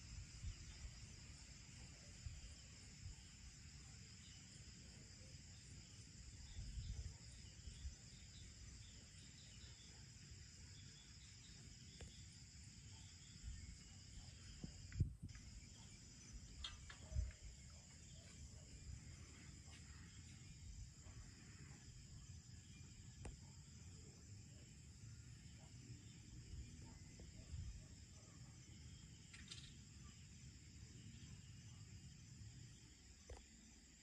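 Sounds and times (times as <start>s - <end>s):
crickets chirring: 0.0s - 34.0s.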